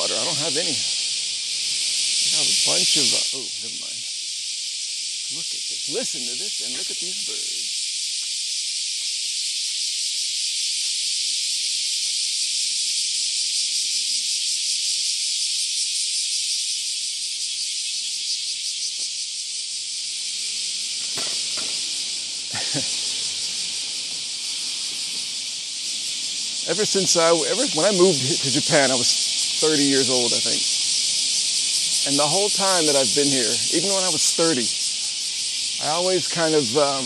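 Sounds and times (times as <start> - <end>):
cicadas chorus: 0.0 - 37.0.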